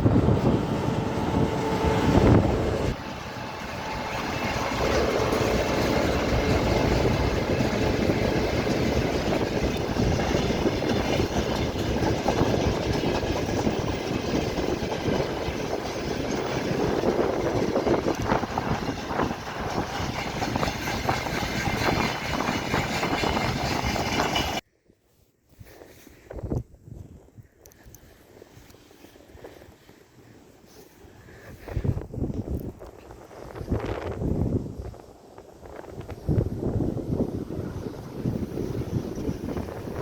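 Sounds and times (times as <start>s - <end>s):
train rumbling and rattling: 0.0s - 24.6s, 30.7s - 40.0s.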